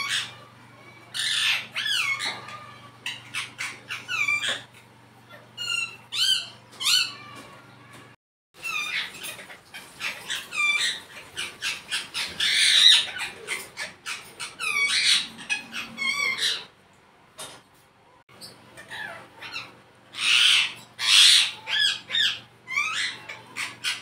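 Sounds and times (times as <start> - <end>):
parakeet squawking: 0.0 - 8.0, 8.6 - 16.8, 18.3 - 24.0.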